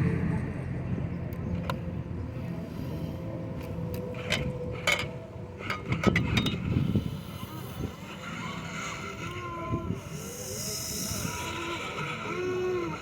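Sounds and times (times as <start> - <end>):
model truck motor running: 1.7 - 13.0.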